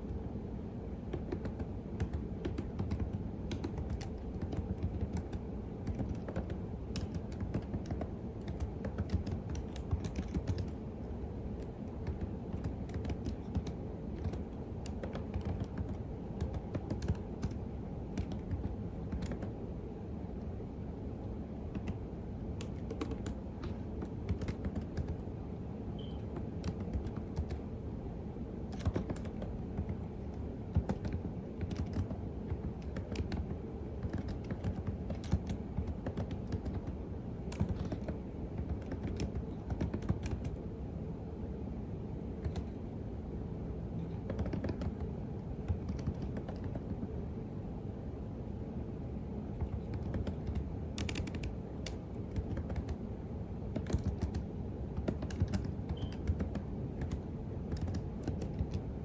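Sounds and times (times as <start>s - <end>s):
low background hum: 0.0s - 59.0s
keyboard typing: 1.0s - 19.6s, 21.6s - 25.3s, 26.0s - 27.7s, 28.6s - 40.7s, 42.4s - 42.8s, 44.0s - 47.1s, 49.6s - 58.9s.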